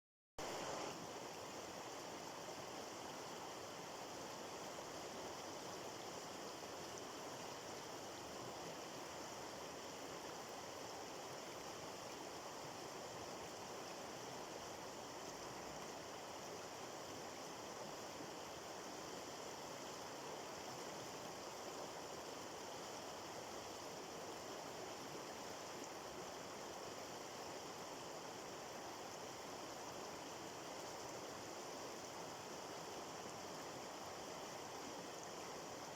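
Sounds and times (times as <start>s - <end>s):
stream of water running: 0.4s - 35.9s.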